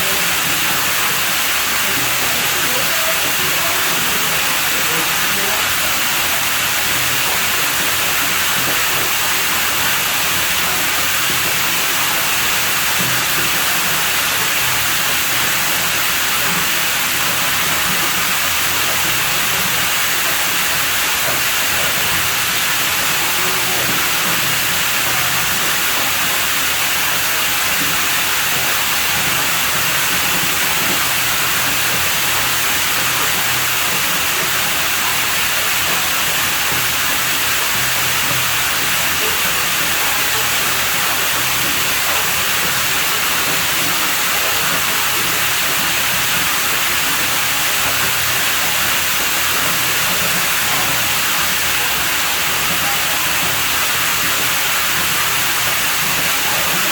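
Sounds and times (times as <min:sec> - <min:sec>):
running water hissing: 0:00.0 - 0:56.9.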